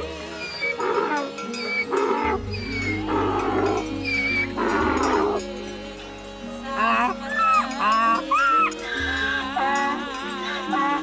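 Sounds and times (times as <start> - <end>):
background music: 0.0 - 11.0
donkey braying: 0.0 - 11.0.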